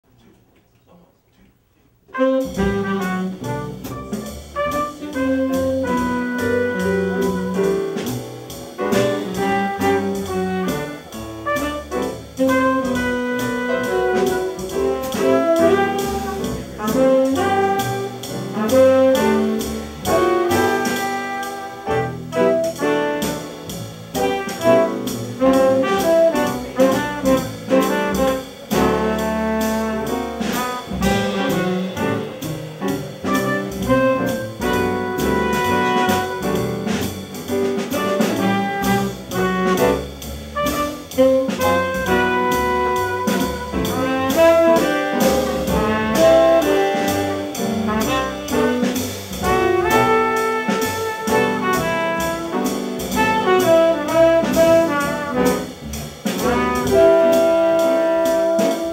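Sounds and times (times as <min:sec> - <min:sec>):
jazz band playing: 0:02.0 - 0:58.9.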